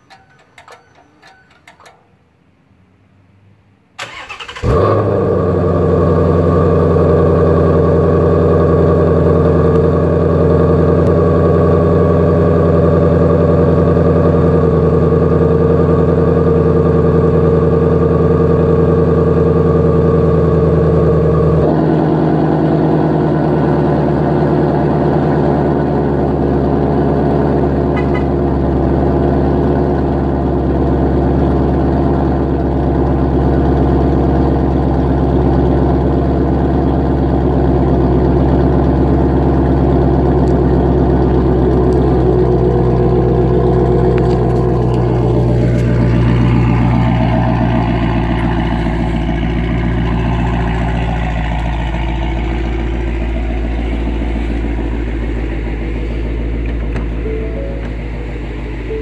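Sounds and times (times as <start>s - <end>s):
car engine idling: 0.0s - 2.2s, 4.0s - 59.0s.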